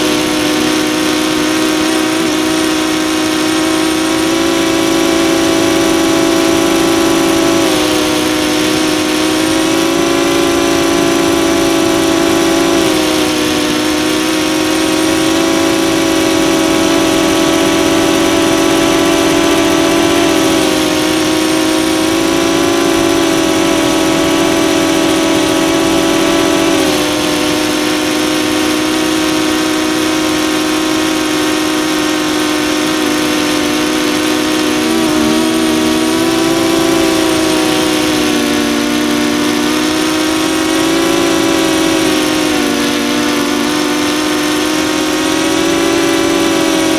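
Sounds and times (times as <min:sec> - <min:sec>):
drone propellers humming: 0:00.0 - 0:46.9.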